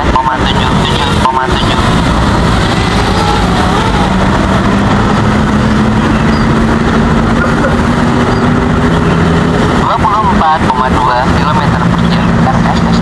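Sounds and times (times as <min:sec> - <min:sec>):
drone motors humming: 0:00.0 - 0:13.0.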